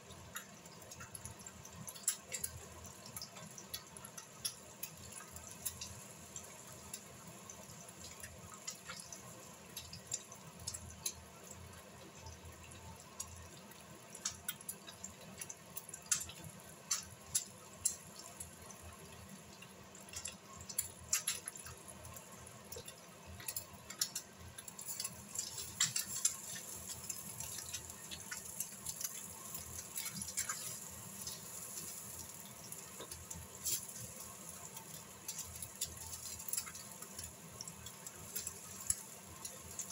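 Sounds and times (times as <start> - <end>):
eggs sizzling in a pan: 0.0 - 39.9.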